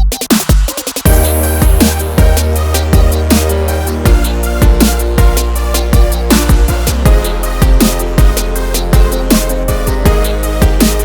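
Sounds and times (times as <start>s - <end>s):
electronic music with heavy beat: 0.0s - 11.0s.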